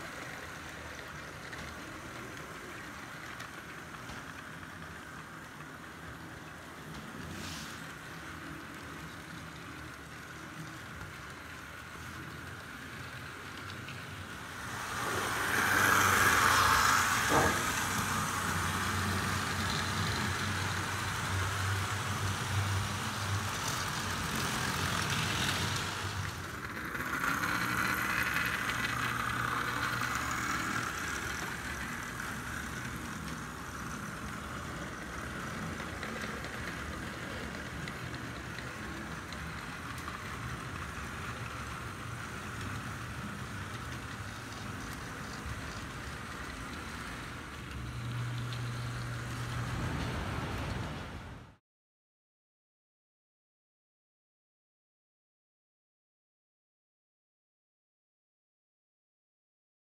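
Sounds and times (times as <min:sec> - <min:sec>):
model train wheels rumbling: 0:00.0 - 0:51.6.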